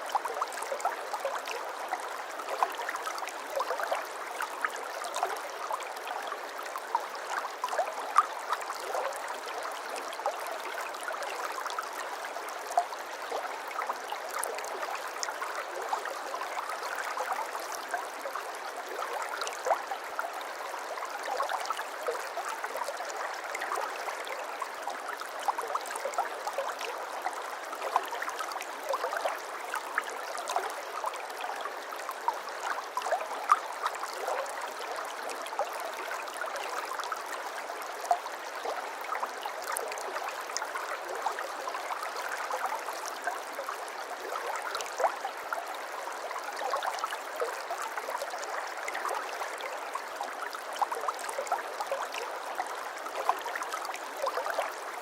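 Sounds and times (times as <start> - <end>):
stream water babbling over stones: 0.0 - 55.0.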